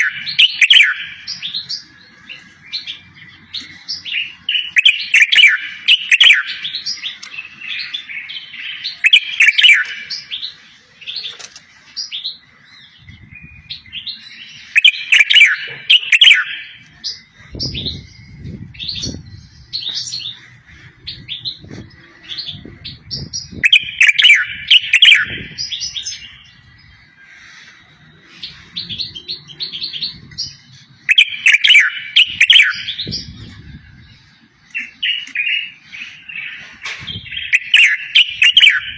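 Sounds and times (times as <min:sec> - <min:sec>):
high bird chirps: 0:00.0 - 0:38.9
songbird twittering and trills: 0:00.0 - 0:38.9.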